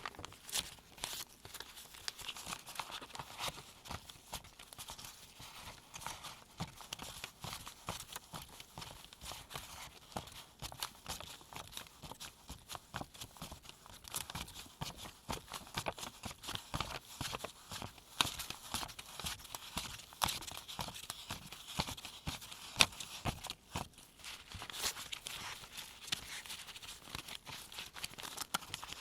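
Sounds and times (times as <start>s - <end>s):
paper bills flicking and rustling: 0.0s - 29.0s.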